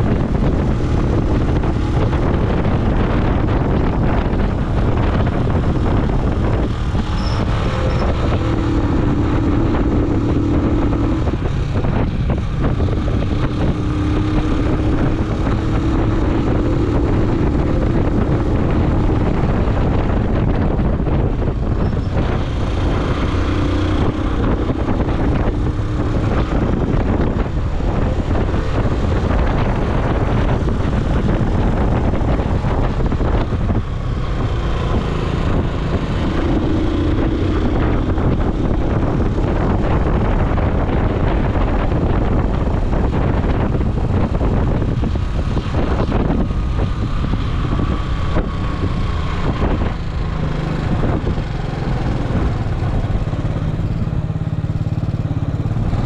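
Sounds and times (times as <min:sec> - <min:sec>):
vehicle engine and road noise: 0:00.0 - 0:56.0
wind buffeting microphone: 0:00.0 - 0:56.0.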